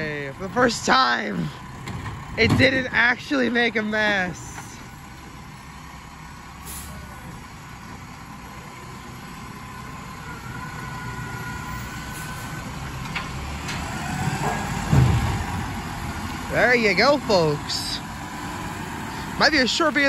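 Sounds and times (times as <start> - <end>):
garbage truck engine rumbling: 0.0 - 20.0.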